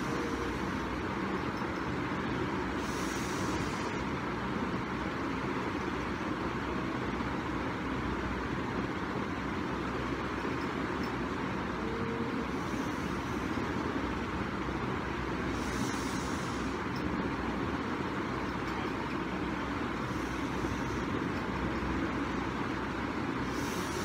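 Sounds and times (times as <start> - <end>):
low rumbling hum and hiss: 0.0 - 24.0.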